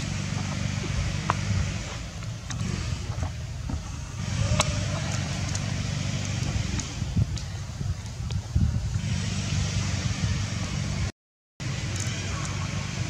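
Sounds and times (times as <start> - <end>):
handheld microphone rumble: 0.0 - 13.0.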